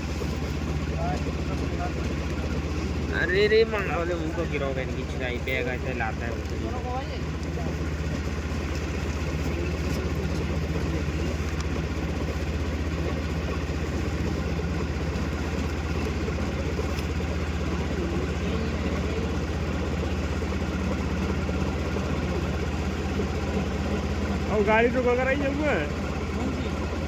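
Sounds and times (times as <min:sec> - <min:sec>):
heavy engine idling: 0:00.0 - 0:27.0.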